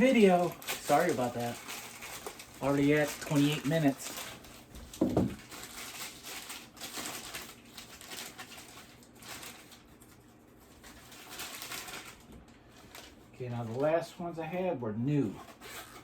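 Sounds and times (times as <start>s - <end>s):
packaging rustling: 0.0s - 14.1s.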